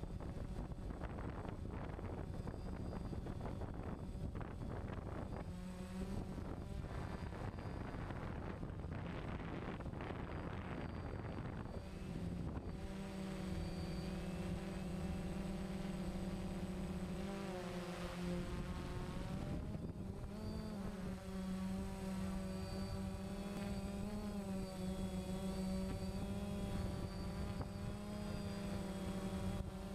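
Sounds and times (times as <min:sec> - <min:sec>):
drone propellers humming: 0:00.0 - 0:29.9.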